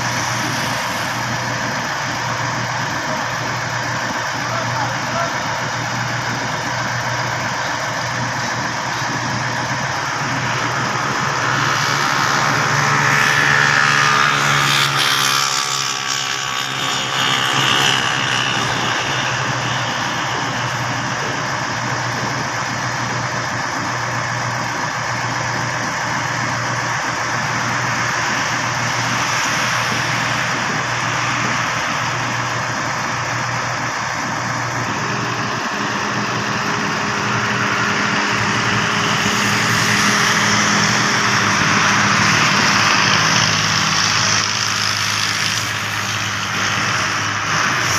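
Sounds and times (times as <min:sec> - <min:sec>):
truck engine low hum: 0:00.0 - 0:47.9.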